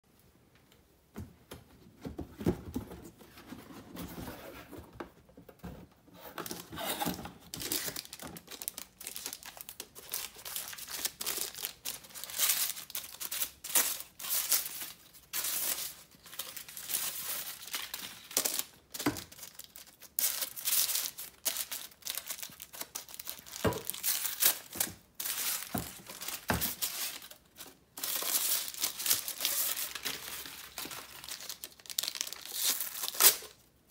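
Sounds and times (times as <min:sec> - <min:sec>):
packing paper crinkling and tearing: 0:06.4 - 0:33.6.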